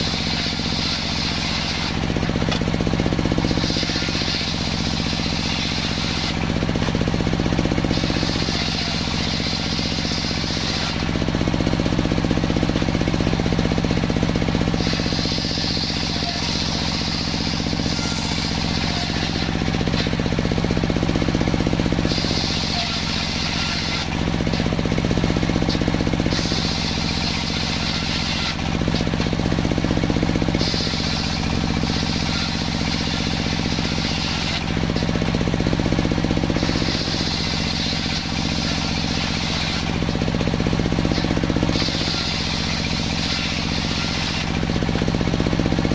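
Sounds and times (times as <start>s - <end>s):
saw blade whining: 0.0s - 45.9s
saw drive humming: 0.0s - 45.9s.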